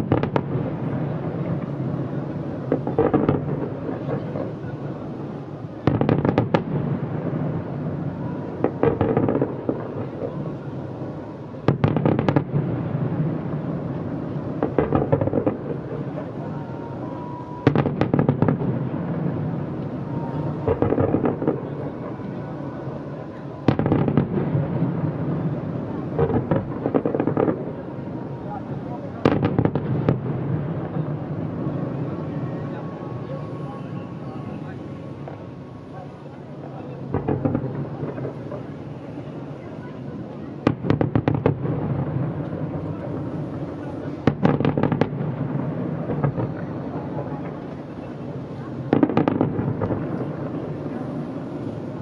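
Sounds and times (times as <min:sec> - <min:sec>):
distant fireworks bangs: 0:00.0 - 0:52.0
fireworks rumble and crackle: 0:00.0 - 0:52.0.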